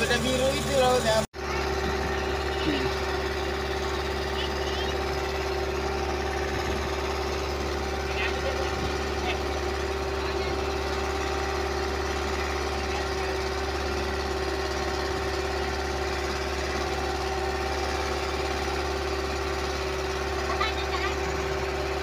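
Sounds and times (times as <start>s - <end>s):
motor boat engine running: 0.0s - 22.0s.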